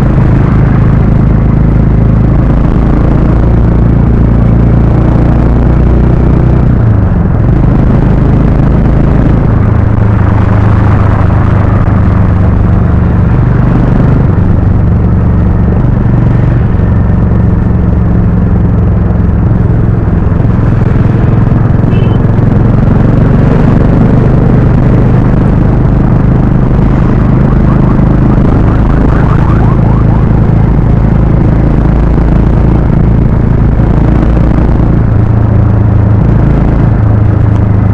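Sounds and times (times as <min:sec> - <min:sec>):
motorcycle engine running steadily: 0:00.0 - 0:37.9.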